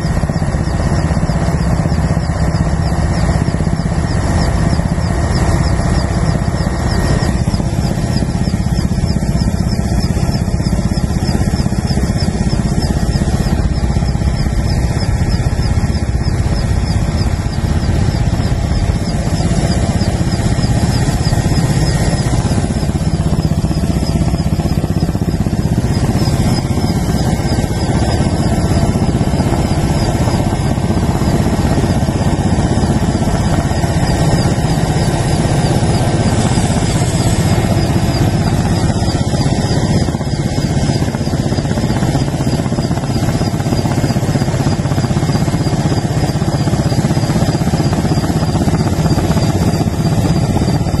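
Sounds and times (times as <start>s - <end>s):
small aircraft engine drone: 0.0s - 51.0s.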